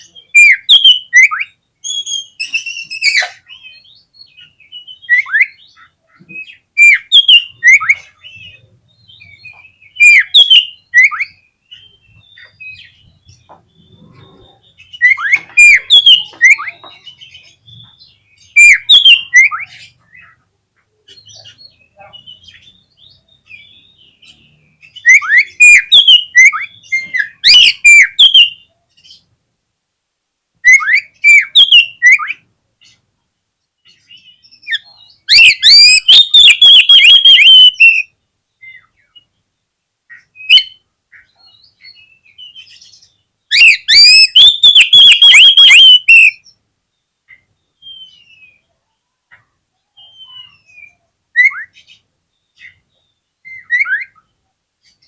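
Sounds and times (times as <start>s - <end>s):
bird singing whistles and chirps: 0.0s - 20.3s, 21.1s - 29.2s, 30.6s - 32.4s, 33.8s - 39.3s, 40.1s - 46.6s, 47.3s - 48.7s, 49.9s - 55.0s.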